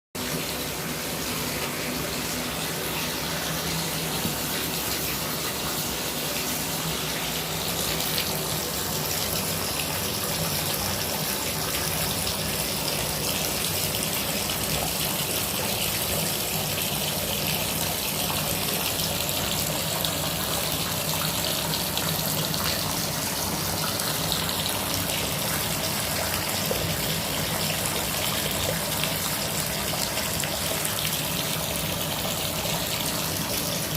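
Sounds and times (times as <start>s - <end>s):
water running from tap: 0.2s - 33.9s.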